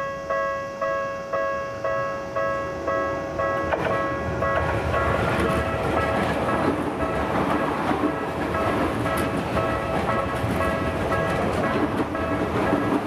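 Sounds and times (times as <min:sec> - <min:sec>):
electric train passing: 0:00.0 - 0:13.0
level crossing alarm dinging: 0:00.0 - 0:13.0.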